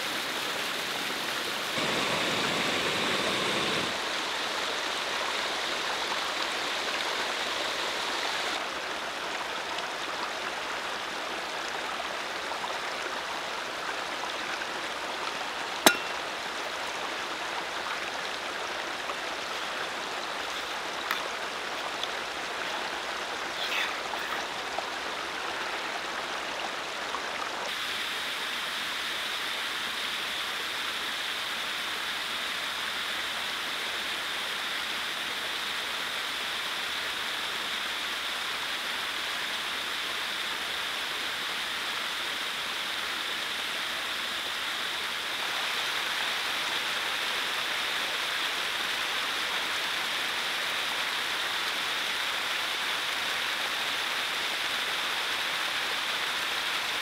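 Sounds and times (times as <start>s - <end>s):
stream and waterfalls over rock: 0.0s - 57.0s.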